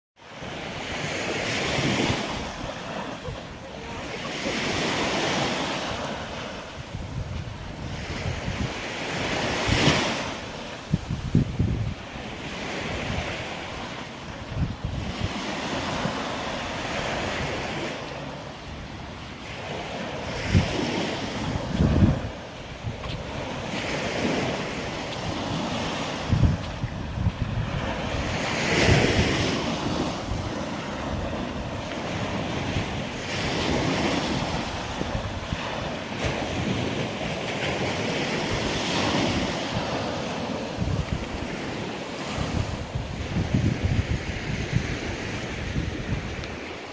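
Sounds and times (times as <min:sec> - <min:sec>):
surf washing onto beach: 0:00.2 - 0:46.9
wind buffeting microphone: 0:00.6 - 0:46.9.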